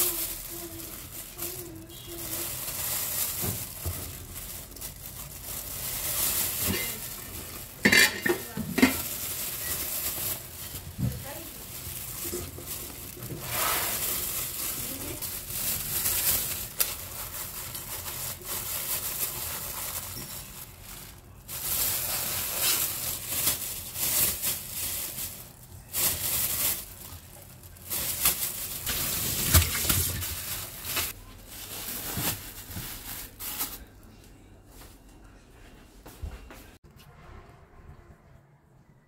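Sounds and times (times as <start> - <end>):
plastic bag crinkling: 0.0 - 34.0.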